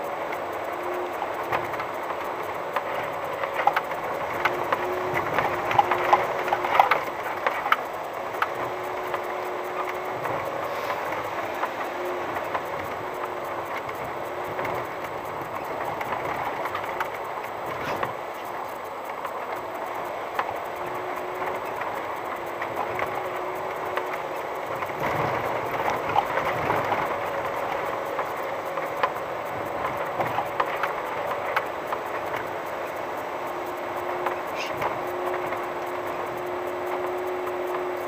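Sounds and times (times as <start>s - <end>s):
faint engine tone: 0.0s - 38.0s
tyres on gravel: 0.0s - 38.0s.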